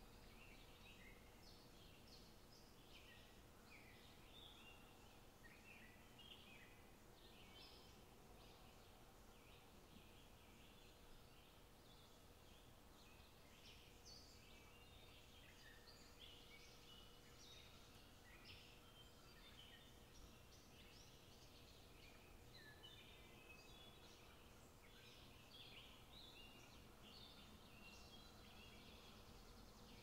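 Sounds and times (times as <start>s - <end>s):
faint birds chirping: 0.0s - 30.0s.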